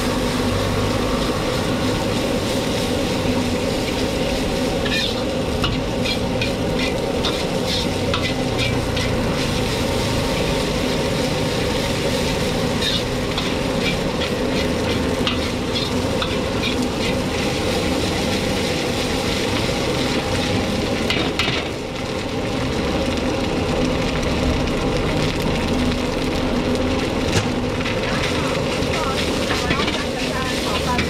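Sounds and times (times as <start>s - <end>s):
food sizzling in a wok: 0.0s - 31.0s.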